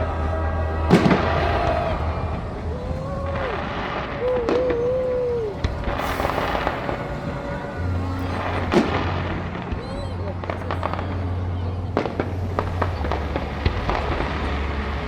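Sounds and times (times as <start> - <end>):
fireworks bangs: 0.0 - 15.0
fireworks crackling hiss: 0.9 - 15.0.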